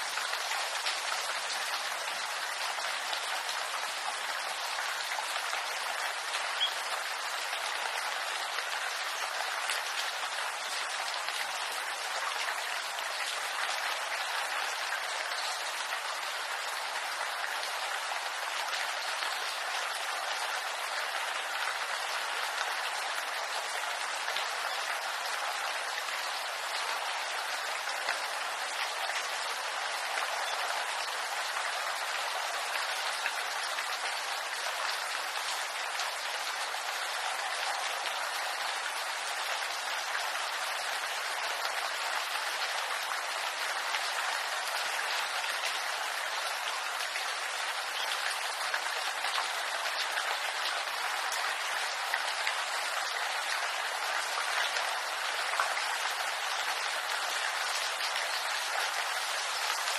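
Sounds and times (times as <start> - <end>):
rain on leaves: 0.0 - 59.9.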